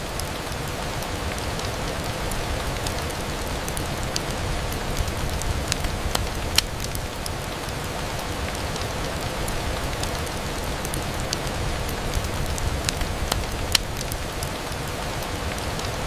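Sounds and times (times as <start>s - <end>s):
rain on a window: 0.0s - 16.0s
sharp ticks of raindrops: 0.0s - 16.0s.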